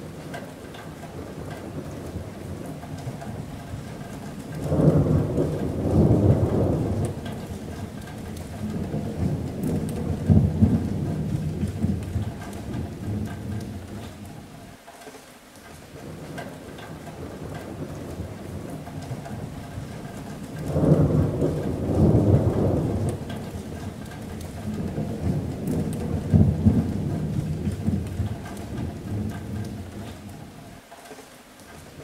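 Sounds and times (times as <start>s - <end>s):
rain on a metal roof: 0.0s - 32.0s
rolling thunder: 0.1s - 14.5s, 16.0s - 30.7s.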